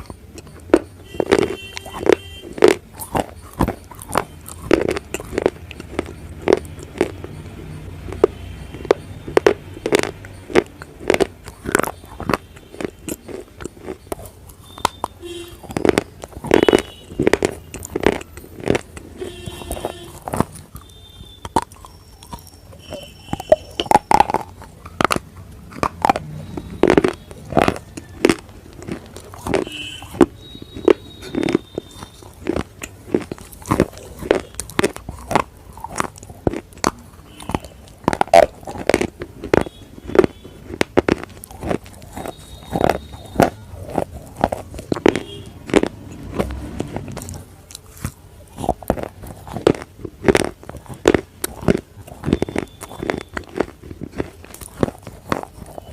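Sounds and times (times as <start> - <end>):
chewing crunches: 0.0 - 55.9.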